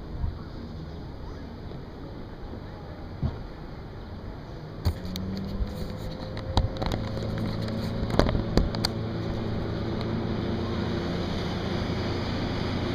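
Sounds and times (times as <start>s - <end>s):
speedboat engine running: 0.0s - 12.9s.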